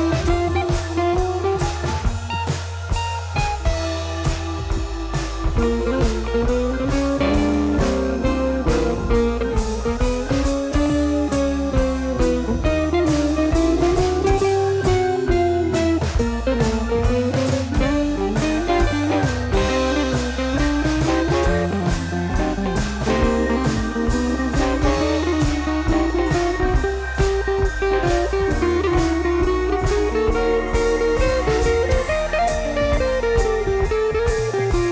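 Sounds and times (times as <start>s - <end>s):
guitar melody over drums and bass: 0.0s - 34.9s.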